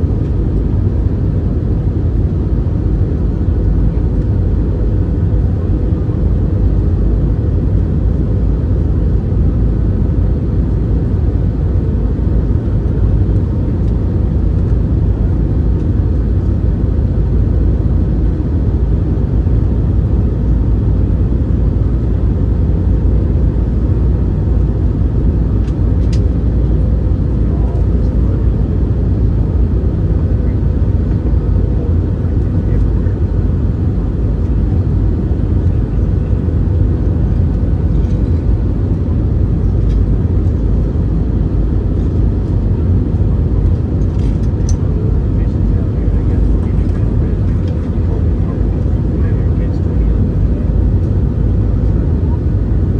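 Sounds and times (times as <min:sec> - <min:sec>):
aircraft cabin roar: 0:00.0 - 0:52.9.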